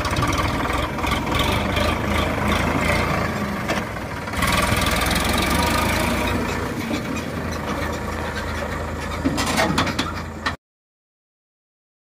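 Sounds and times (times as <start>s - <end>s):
tractor diesel engine running: 0.0s - 10.6s.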